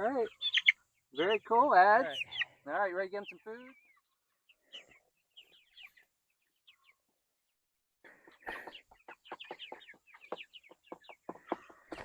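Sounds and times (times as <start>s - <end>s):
chickens peeping and clucking: 0.0s - 12.0s.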